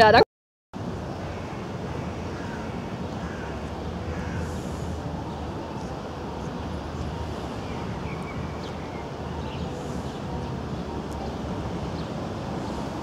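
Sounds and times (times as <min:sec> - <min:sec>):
distant traffic rumble: 0:00.8 - 0:13.0.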